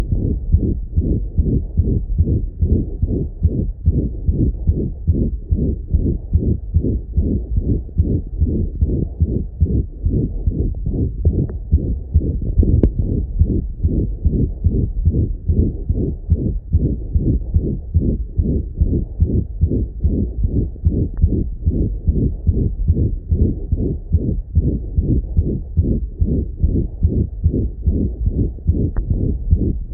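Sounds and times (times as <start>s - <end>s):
dog heartbeat with murmur: 0.0s - 29.9s.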